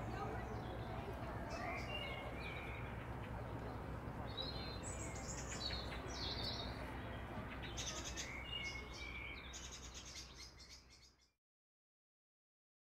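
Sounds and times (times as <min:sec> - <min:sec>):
outdoor ambience: 0:00.0 - 0:11.3
birds chirping and trilling: 0:00.0 - 0:11.4.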